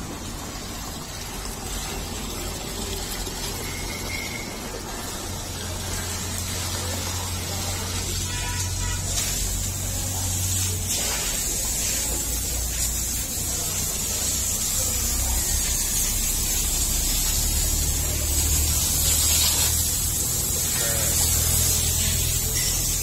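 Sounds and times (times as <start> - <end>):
steady hissing: 0.0 - 23.0.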